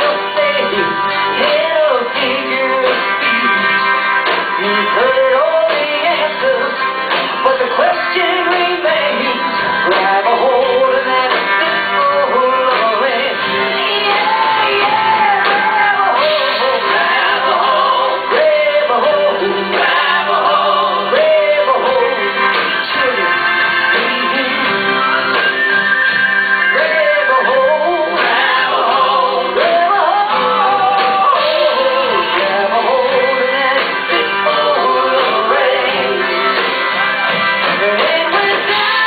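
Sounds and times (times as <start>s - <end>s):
live rock band playing: 0.0s - 39.0s
person singing: 0.0s - 39.0s.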